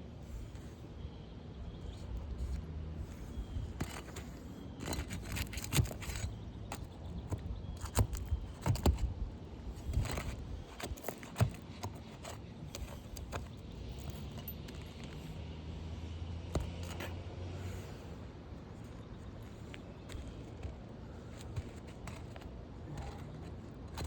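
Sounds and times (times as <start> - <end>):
hand tools on shingles: 1.9 - 15.4, 16.5 - 18.2, 18.8 - 24.0.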